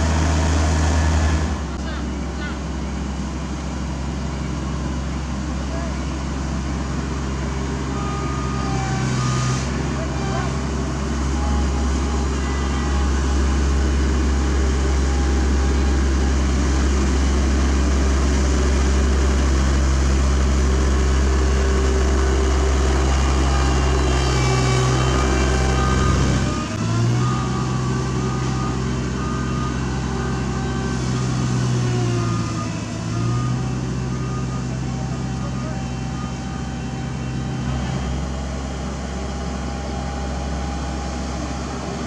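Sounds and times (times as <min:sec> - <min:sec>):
road roller diesel engine: 0:00.0 - 0:42.0.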